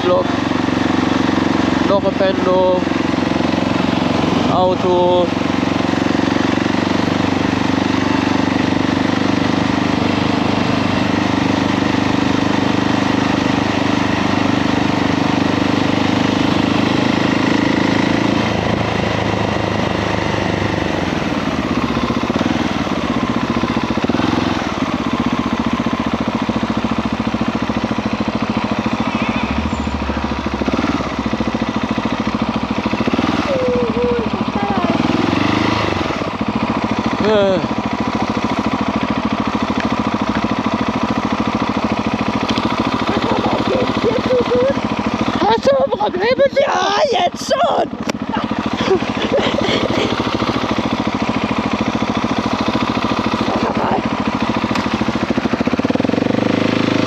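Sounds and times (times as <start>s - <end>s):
motorcycle engine while riding: 0.0s - 57.0s.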